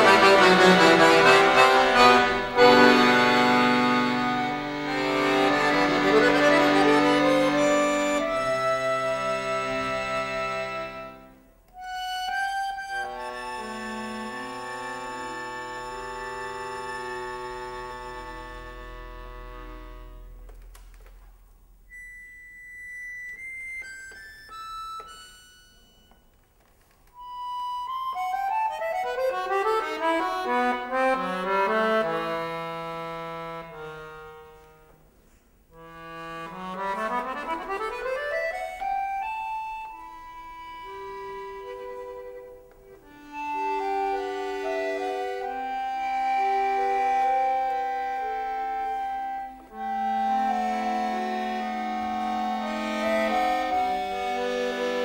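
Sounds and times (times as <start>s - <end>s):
solo accordion playing: 0.0s - 21.0s, 21.8s - 26.3s, 27.1s - 55.0s.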